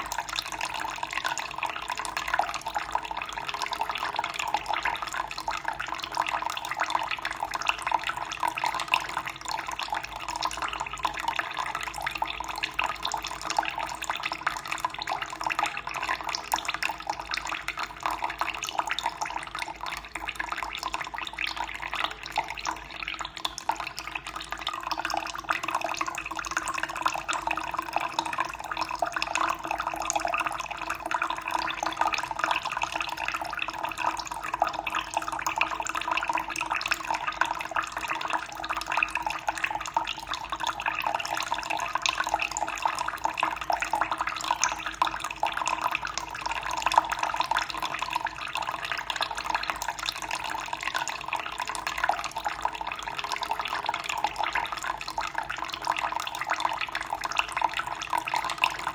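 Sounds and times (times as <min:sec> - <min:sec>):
fine water trickle: 0:00.0 - 0:58.9.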